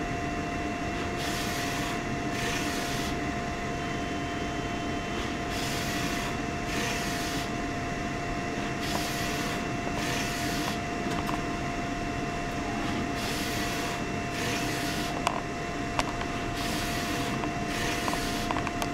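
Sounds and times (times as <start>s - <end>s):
steady printer tone: 0.0s - 18.9s.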